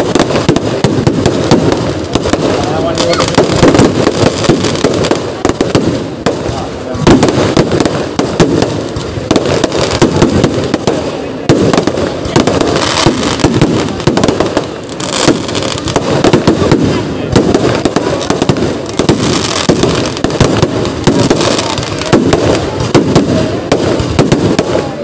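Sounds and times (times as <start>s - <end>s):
firecracker bangs and crackling: 0.0s - 25.0s.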